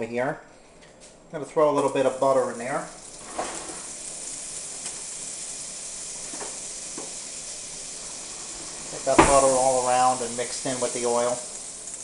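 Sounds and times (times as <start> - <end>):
butter sizzling in hot oil: 1.7 - 12.0.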